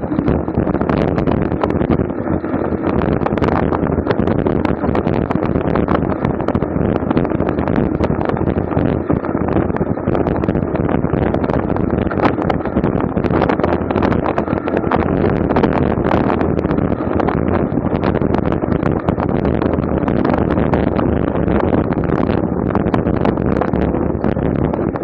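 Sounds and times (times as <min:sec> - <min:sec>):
road noise: 0:00.0 - 0:25.0
wind rushing: 0:00.0 - 0:25.0.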